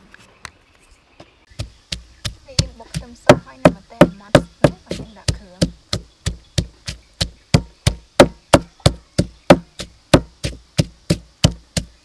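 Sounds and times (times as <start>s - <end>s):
pestle pounding in wooden mortar: 1.5s - 12.0s.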